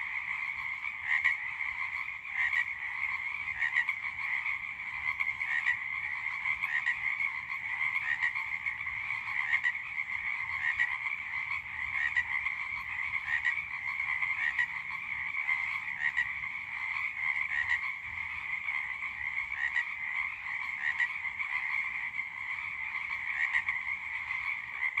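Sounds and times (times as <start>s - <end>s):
chorus of frogs croaking: 0.0s - 25.0s.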